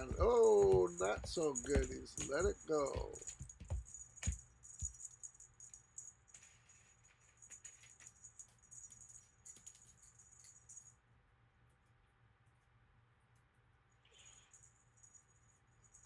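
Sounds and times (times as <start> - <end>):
faint metallic jingling: 0.0 - 11.1, 14.1 - 16.0.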